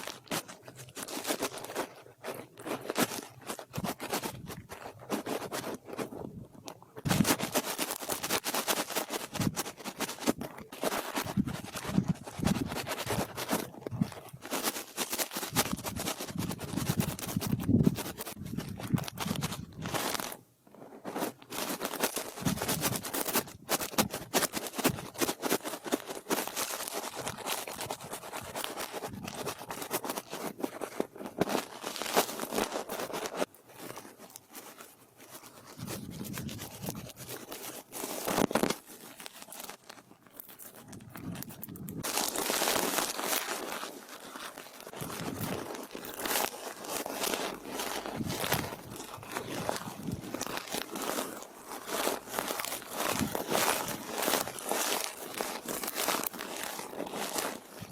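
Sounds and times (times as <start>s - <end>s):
brush scratching a microphone: 0.0s - 57.9s.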